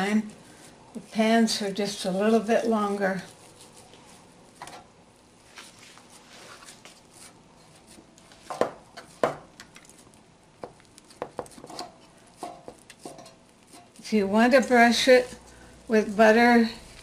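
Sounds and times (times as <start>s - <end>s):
dough rustling: 0.0s - 17.0s.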